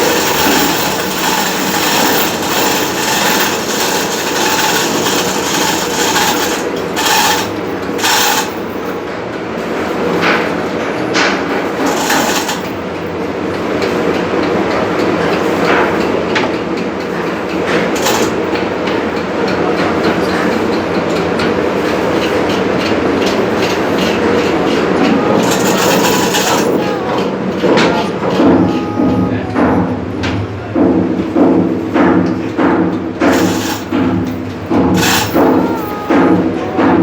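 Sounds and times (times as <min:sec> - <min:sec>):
diesel engine clattering: 0:00.0 - 0:37.0.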